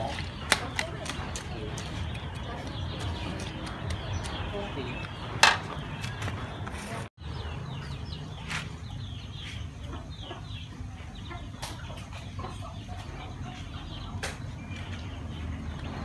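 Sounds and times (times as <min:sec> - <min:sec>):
chickens clucking and cheeping: 0:00.0 - 0:16.0.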